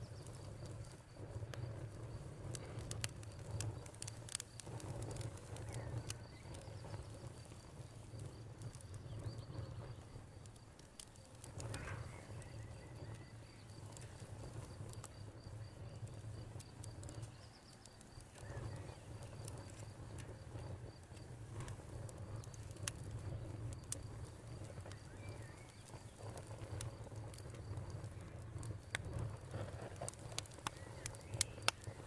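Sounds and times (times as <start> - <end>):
campfire crackling and popping: 0.0 - 32.0
crickets chirping: 0.0 - 32.0.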